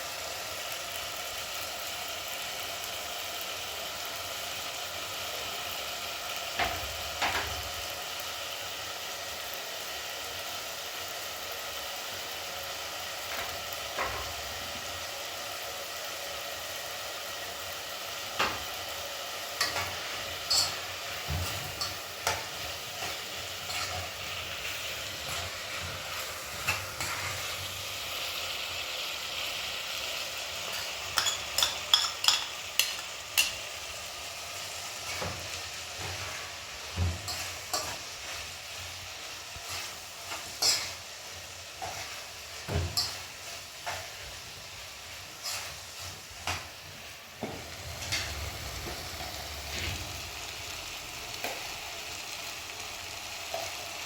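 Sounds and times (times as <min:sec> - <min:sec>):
food sizzling: 0:00.0 - 0:54.0.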